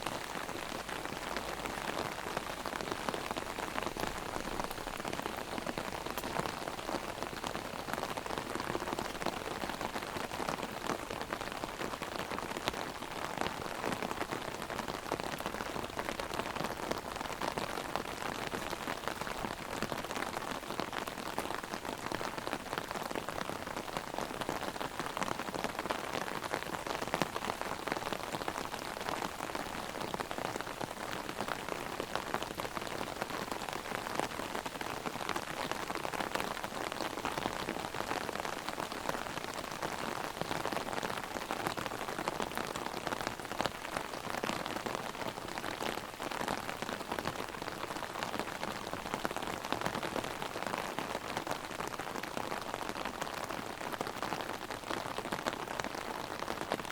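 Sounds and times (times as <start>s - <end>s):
heavy rain on umbrella: 0.0s - 56.9s.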